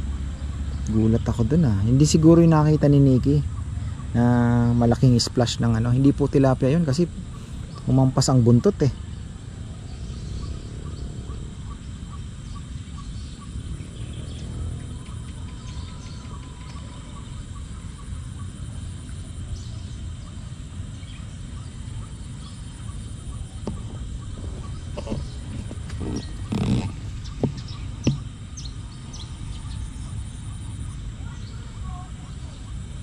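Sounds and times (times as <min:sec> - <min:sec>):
faint bird chirps: 0:00.0 - 0:33.0.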